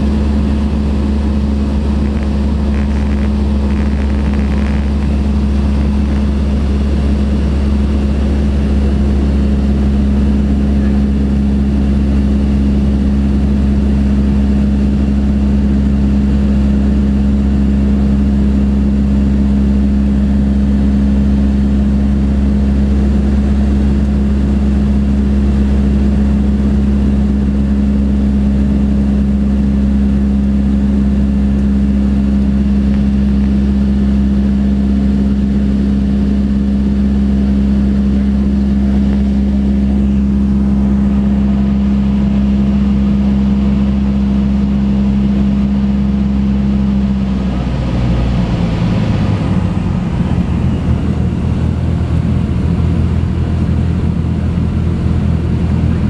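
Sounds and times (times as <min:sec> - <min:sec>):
light airplane engine droning: 0:00.0 - 0:56.0.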